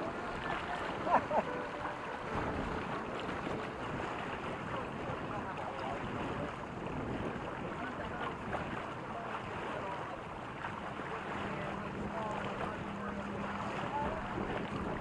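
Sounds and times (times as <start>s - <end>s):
low steady hum: 0.0s - 15.0s
water rushing along hulls: 0.0s - 15.0s
wind buffeting microphone: 0.0s - 15.0s.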